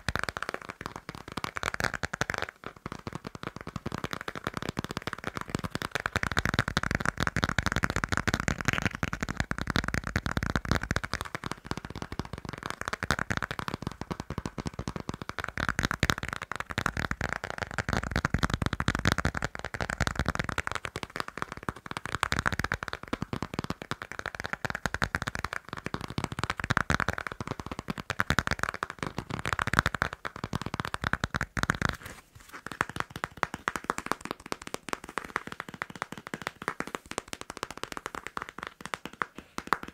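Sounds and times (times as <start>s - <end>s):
fast tapping and scratching: 0.0s - 39.9s.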